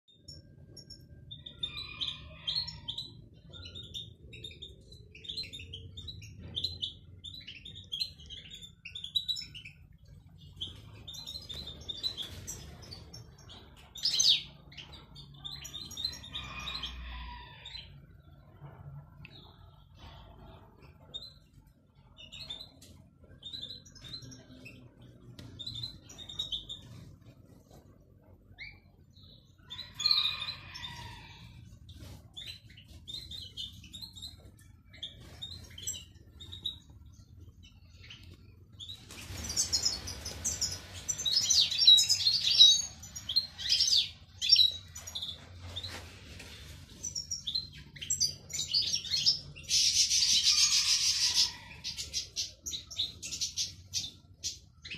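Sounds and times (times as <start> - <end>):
finches chirping and twittering: 0.1 - 54.9.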